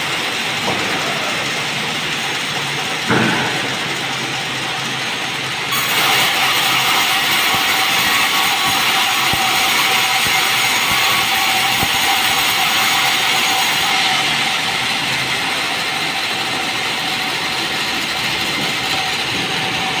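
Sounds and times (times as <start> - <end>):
band saw cutting wood: 0.0 - 20.0.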